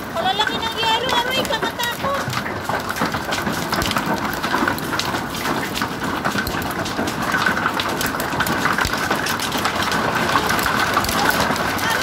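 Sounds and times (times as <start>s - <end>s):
hail ticking on surfaces: 0.0s - 12.0s
heavy rain: 0.0s - 12.0s.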